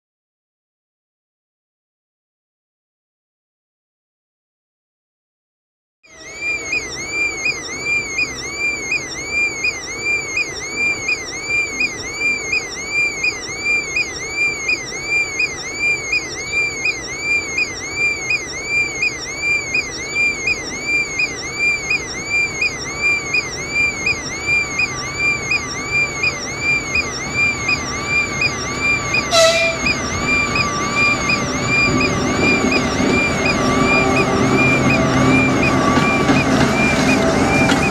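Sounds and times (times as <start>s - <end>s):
level crossing warning tone: 6.1s - 37.9s.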